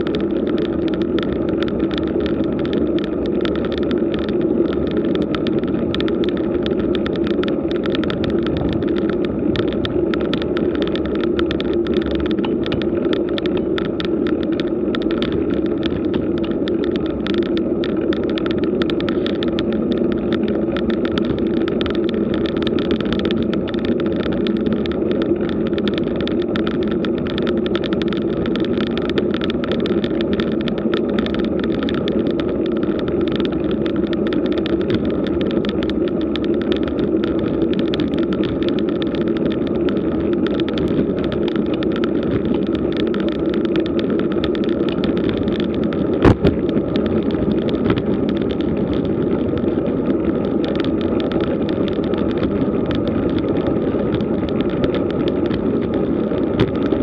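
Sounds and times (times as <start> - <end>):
bike tyres rumbling on asphalt: 0.0 - 57.0
fine continuous rattle: 0.0 - 57.0.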